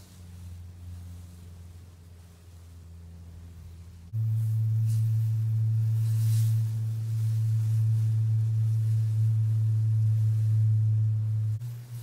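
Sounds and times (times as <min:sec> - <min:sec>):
sustained synth bass note: 0:00.1 - 0:12.0.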